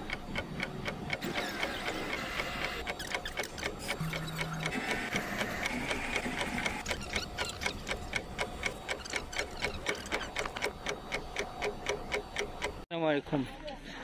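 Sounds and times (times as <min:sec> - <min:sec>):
rapid even ticking: 0:00.0 - 0:12.9.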